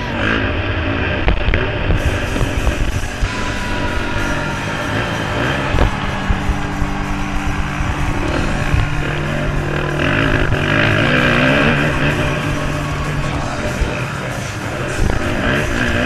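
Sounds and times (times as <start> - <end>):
dirt bike engine revving: 0.0 - 16.0
rock music with electric guitar: 0.0 - 16.0.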